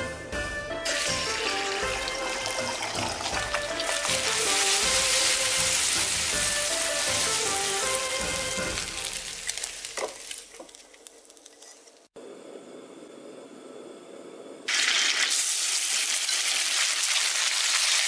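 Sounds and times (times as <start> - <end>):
egg sizzling in hot oil: 0.8 - 12.2, 14.7 - 18.0.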